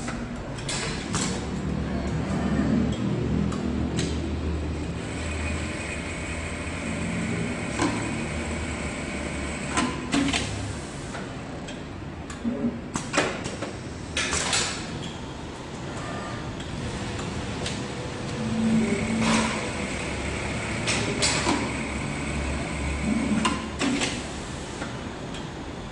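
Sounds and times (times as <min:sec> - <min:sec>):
sewing machine hum and whine: 0:00.8 - 0:11.5, 0:14.9 - 0:25.9.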